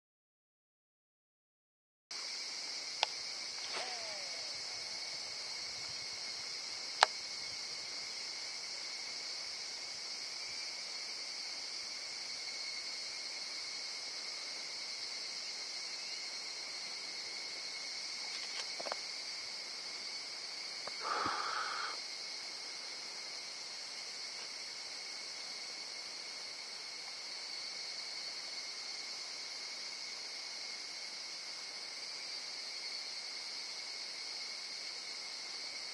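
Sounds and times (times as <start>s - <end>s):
insects buzzing: 2.1s - 35.9s.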